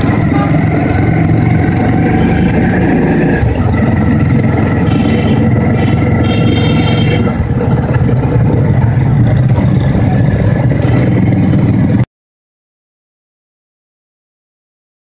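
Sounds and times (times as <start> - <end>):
road noise: 0.0 - 12.1
vehicle engine: 0.0 - 12.1.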